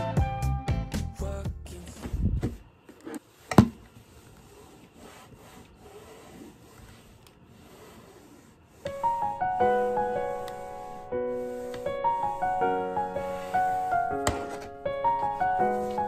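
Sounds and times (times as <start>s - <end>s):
steam iron scuffing fabric: 2.0s - 16.0s.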